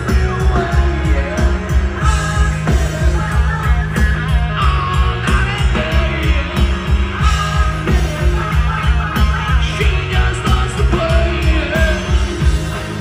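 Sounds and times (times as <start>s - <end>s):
drums beat: 0.0s - 13.0s
live rock band playing: 0.0s - 13.0s.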